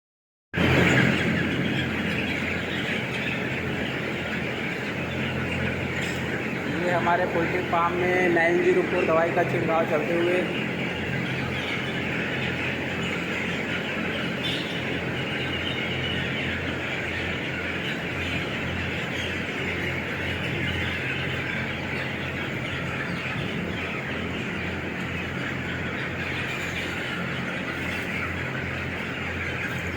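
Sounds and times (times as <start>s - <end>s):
chickens chirping and peeping: 0.6s - 29.9s
low mechanical hum: 0.6s - 29.9s.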